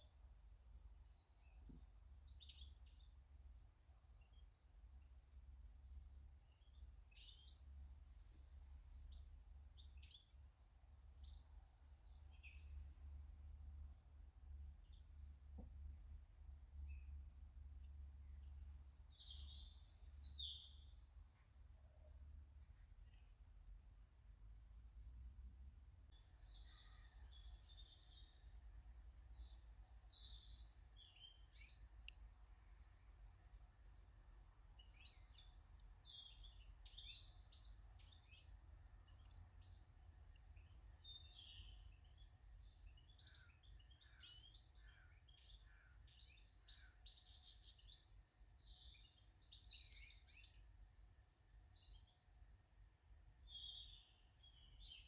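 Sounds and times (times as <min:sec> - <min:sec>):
birds chirping: 0:01.0 - 0:14.0, 0:14.6 - 0:52.2, 0:53.4 - 0:55.0.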